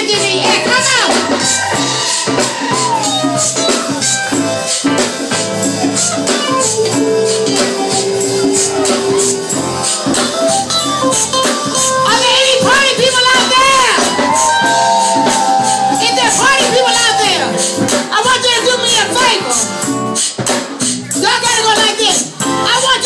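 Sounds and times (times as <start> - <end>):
live band playing soul ballad: 0.0 - 23.0
shaken percussion: 0.1 - 22.7.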